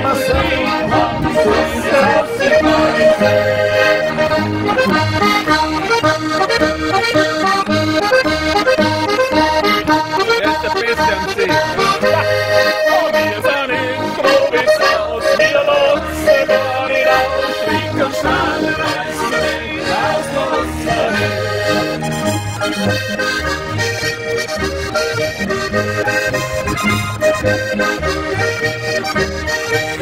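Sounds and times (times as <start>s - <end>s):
accordion: 0.0s - 30.0s
folk dance band: 0.0s - 30.0s.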